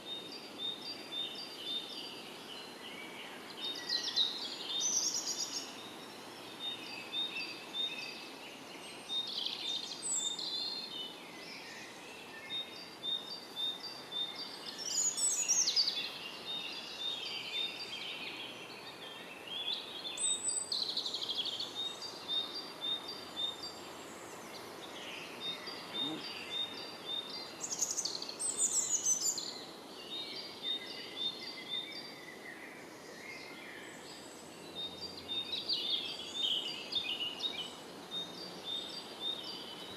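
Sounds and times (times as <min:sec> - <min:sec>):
bird song phrases: 0:00.0 - 0:39.9.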